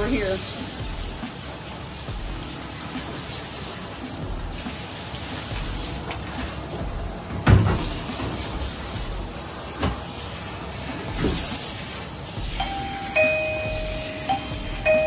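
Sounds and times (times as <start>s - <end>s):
water spraying on dog: 0.0s - 15.0s.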